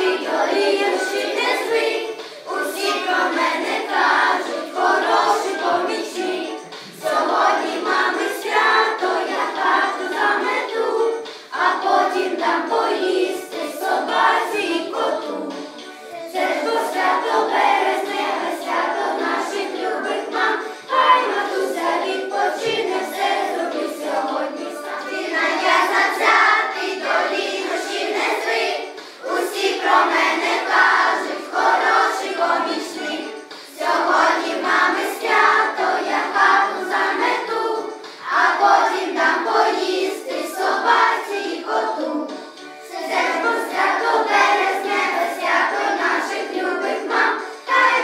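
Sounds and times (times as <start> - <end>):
children singing as a choir: 0.0 - 48.0.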